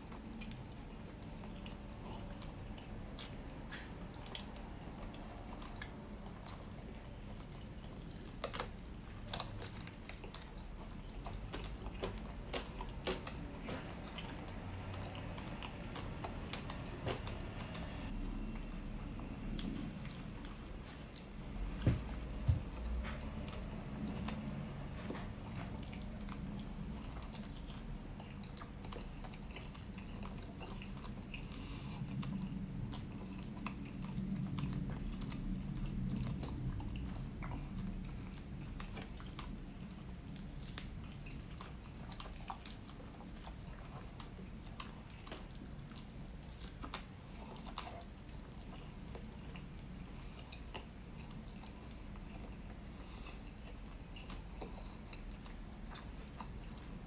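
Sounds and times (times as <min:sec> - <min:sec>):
close-miked chewing: 0:00.0 - 0:57.0.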